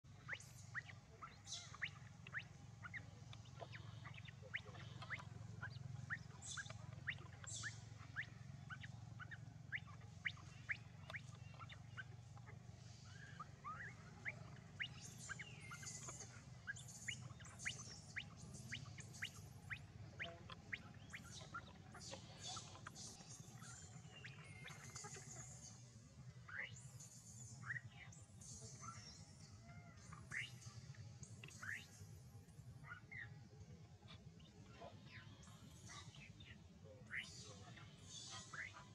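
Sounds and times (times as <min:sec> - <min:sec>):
low steady hum: 0:00.0 - 0:38.9
high chirping calls: 0:00.1 - 0:32.2, 0:34.0 - 0:38.9.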